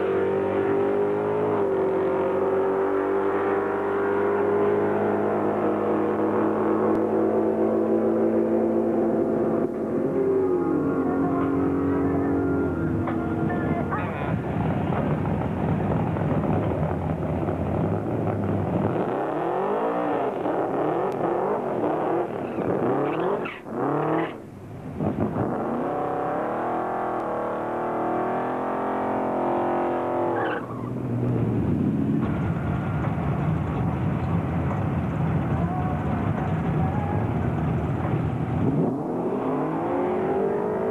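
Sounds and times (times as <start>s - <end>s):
car engines revving and idling: 0.0s - 40.9s.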